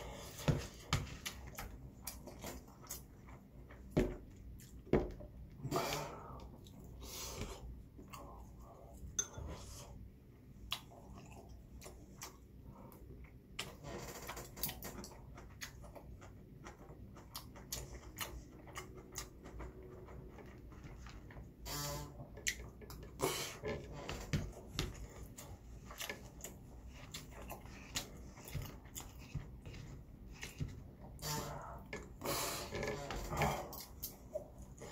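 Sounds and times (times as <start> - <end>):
quiet chewing: 0.0 - 21.6, 22.2 - 34.9.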